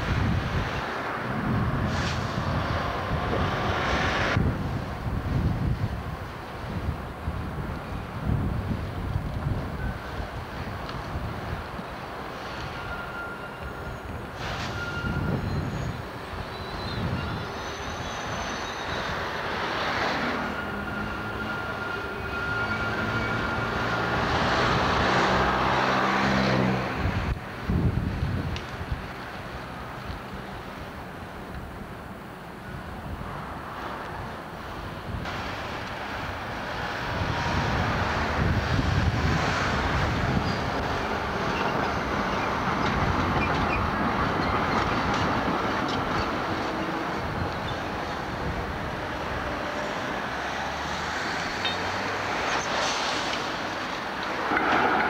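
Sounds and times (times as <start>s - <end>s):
city street noise: 0.0s - 55.0s
tram wheels rumbling on rails: 0.0s - 55.0s.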